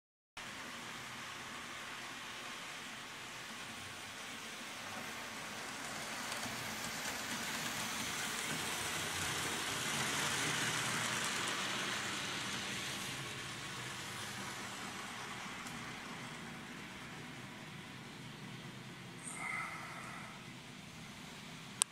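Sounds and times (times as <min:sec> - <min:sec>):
model train rattling past: 0:00.4 - 0:21.8.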